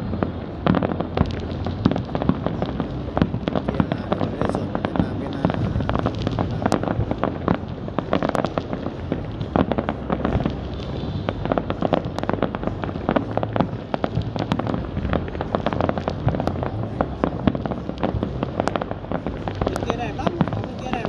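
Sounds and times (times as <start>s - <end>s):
fireworks bangs and crackles: 0.0s - 21.0s
low rumble: 0.0s - 21.0s.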